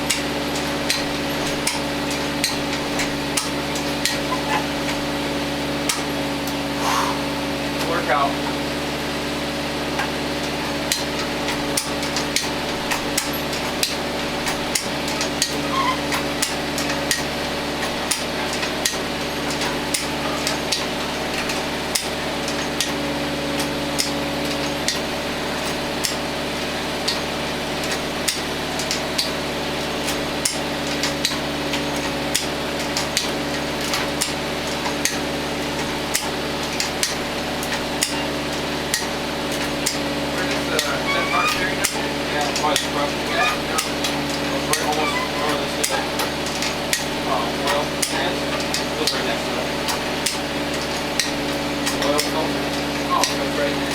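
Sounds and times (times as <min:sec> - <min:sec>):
tractor engine idling: 0:00.0 - 0:53.9.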